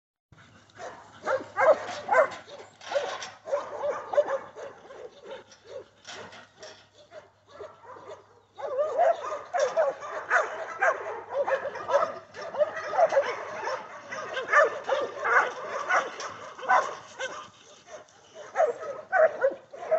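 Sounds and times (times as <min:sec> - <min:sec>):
dogs barking and yipping: 0:00.4 - 0:19.9.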